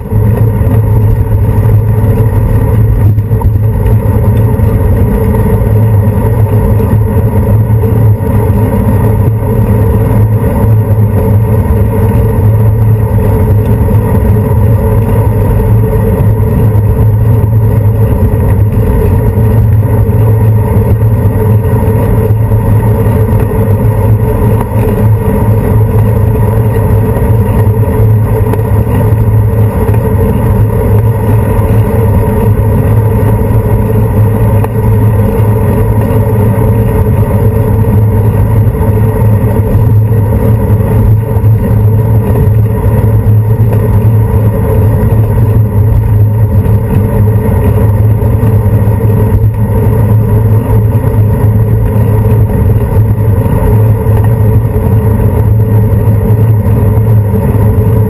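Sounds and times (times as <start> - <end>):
road vibration on camera: 0.0 - 58.0
wind rumble: 0.0 - 58.0.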